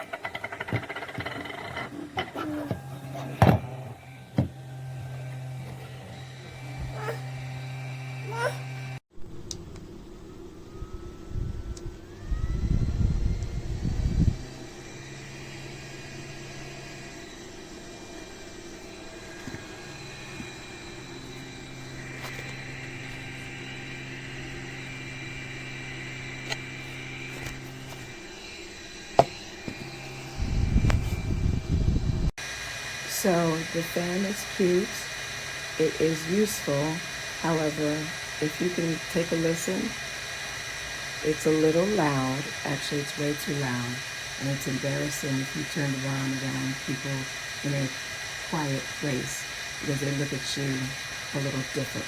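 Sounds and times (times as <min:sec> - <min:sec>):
electric fan motor humming: 0:00.0 - 0:52.0.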